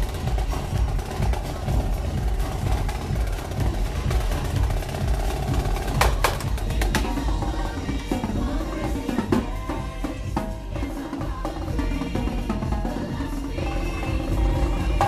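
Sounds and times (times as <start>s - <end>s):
marching drums: 0.0s - 15.0s.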